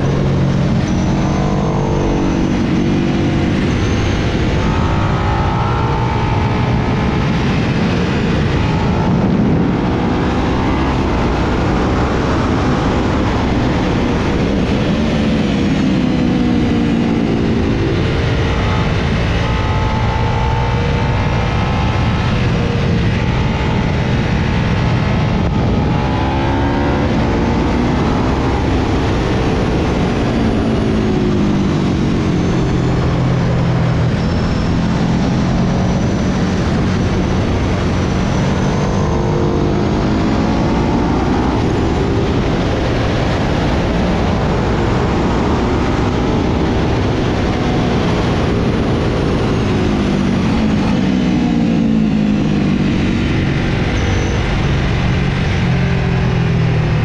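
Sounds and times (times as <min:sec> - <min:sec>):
loud wind rush: 0:00.0 - 0:57.0
motorcycle engine revving: 0:00.0 - 0:57.0.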